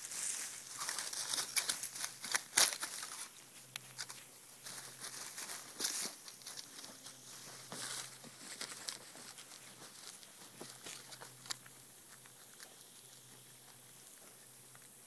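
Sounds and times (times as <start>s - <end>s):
armadillo rustling and crunching: 0.0s - 15.0s.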